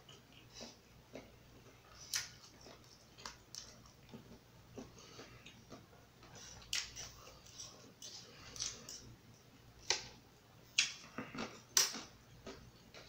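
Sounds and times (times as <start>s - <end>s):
chewing rice: 0.0s - 9.1s, 10.8s - 13.0s.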